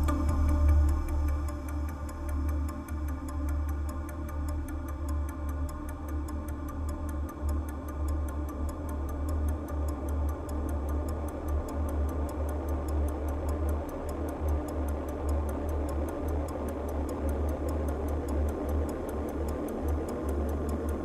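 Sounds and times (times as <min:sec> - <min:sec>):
clock-like ticking beat: 0:00.0 - 0:21.0
pulsing bass: 0:00.0 - 0:21.0.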